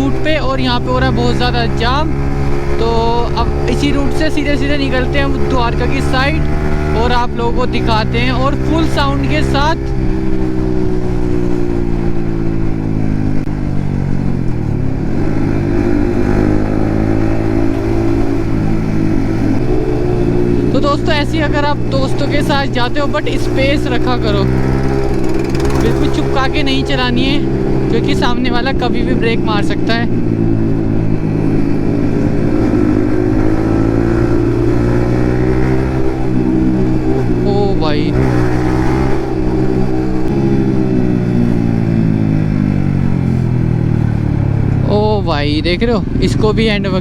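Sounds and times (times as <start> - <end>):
motorcycle engine in traffic: 0.0 - 47.0.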